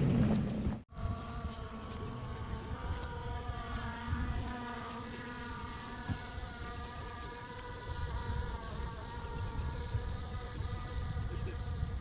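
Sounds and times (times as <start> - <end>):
buzzing hum: 0.0 - 12.0.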